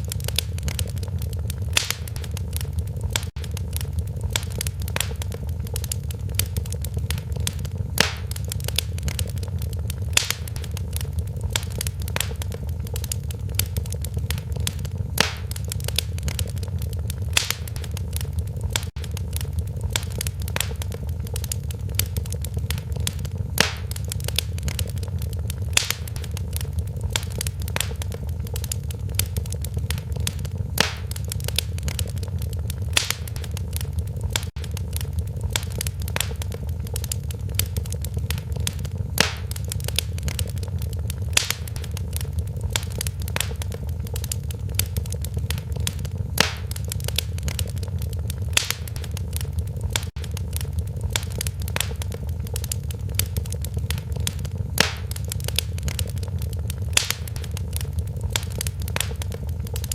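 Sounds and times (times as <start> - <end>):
low rumble of flames: 0.0 - 59.9
sharp pops of fire: 0.0 - 59.9
wood fire crackling: 0.0 - 59.9.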